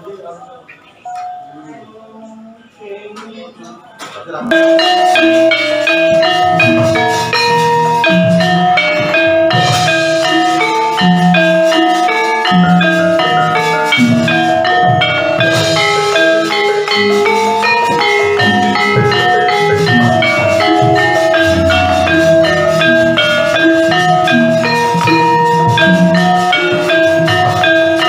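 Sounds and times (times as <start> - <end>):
gamelan music: 4.4 - 28.0.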